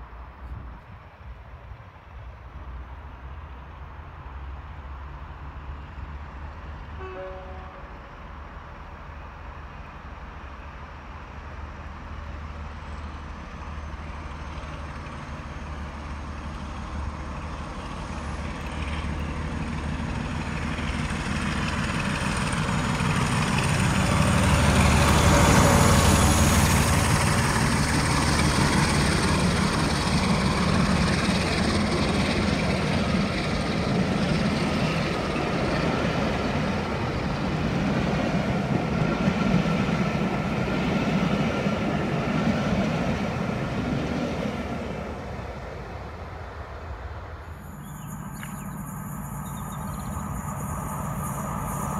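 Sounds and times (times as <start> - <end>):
diesel locomotive engine drone: 0.0 - 51.9
train coaches rolling by: 0.0 - 51.9.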